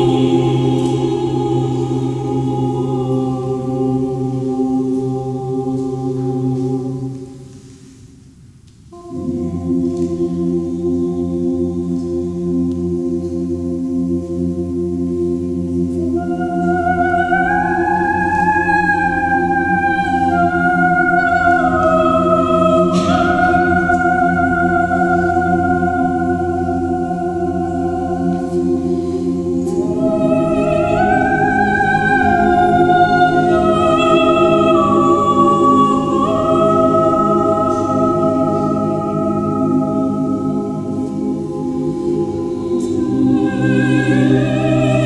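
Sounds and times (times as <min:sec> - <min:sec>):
mixed choir singing: 0:00.0 - 0:07.7, 0:09.0 - 0:45.0.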